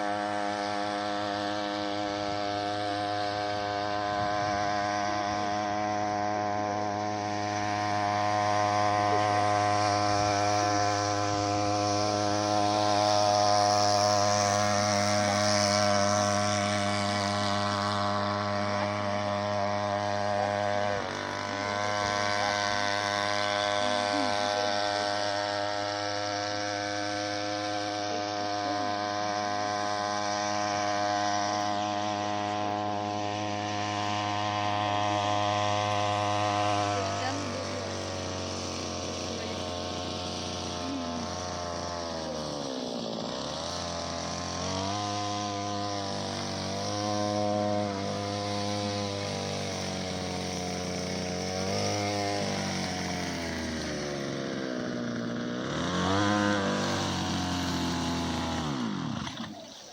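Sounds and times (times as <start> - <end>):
outboard boat motor running: 0.0 - 59.9.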